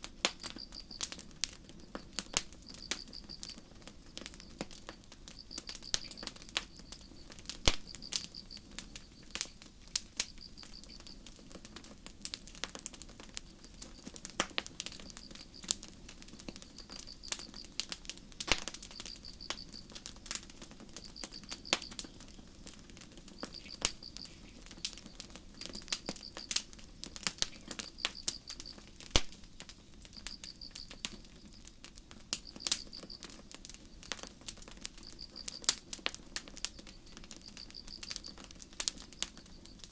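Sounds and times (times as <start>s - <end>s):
campfire crackling and popping: 0.0s - 39.9s
crickets chirping: 0.3s - 11.3s, 13.4s - 39.9s.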